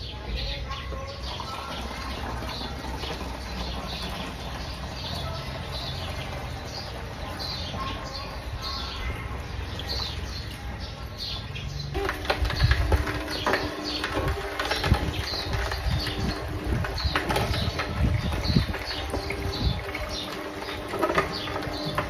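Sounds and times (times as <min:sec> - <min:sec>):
small birds chirping rapidly: 0:00.0 - 0:22.0.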